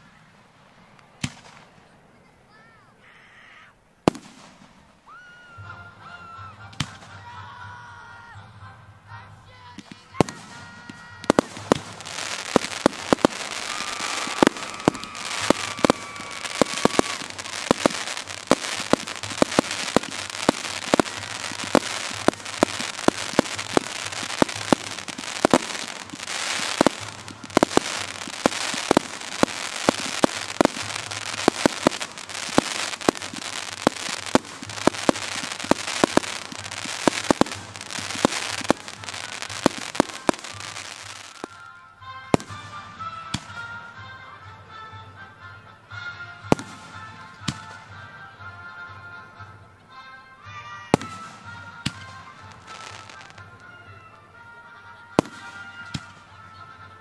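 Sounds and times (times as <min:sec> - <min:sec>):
fireworks bangs: 0:00.0 - 0:02.2, 0:04.0 - 0:05.8, 0:09.7 - 0:44.2, 0:45.9 - 0:48.2, 0:50.5 - 0:56.9.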